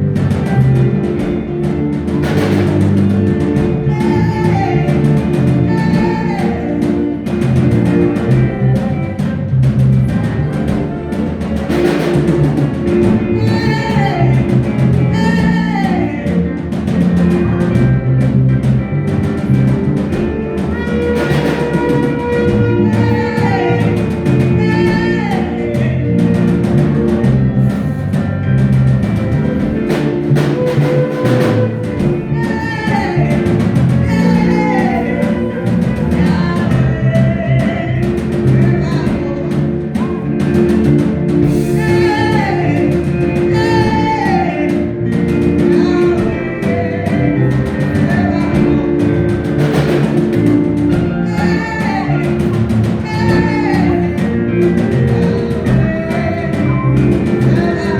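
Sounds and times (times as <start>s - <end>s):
live band playing groove: 0.0s - 57.9s.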